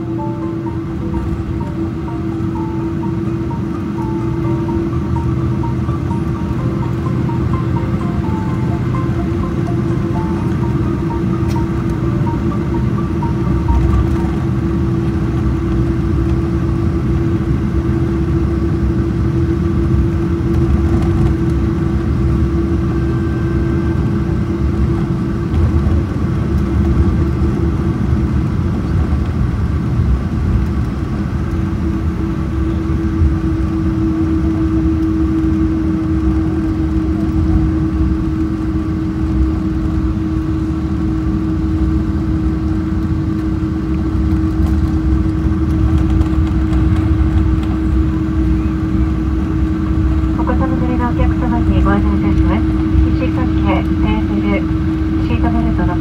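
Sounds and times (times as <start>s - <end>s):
constant hum tone: 0.0s - 56.0s
jet engine rumble in cabin: 0.0s - 56.0s.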